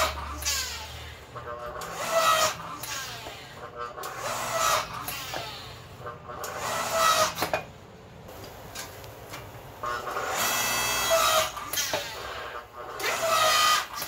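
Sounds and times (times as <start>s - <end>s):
electric motor and hydraulic pump: 0.0s - 7.6s, 8.8s - 14.0s.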